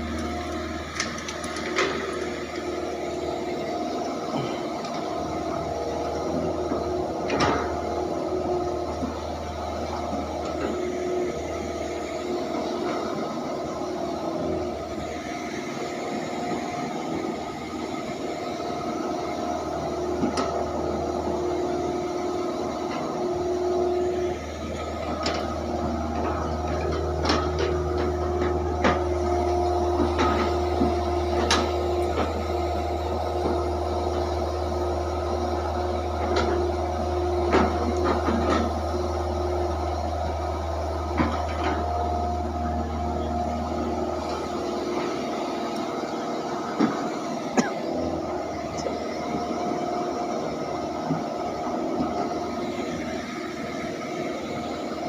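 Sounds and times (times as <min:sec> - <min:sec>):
excavator engine drone: 0:00.0 - 0:55.0
hydraulic whine: 0:00.0 - 0:55.0.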